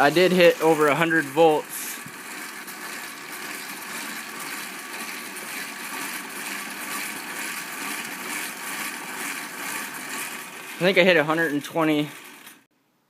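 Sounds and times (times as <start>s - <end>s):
exercise bike wheel whirring: 0.0s - 12.7s.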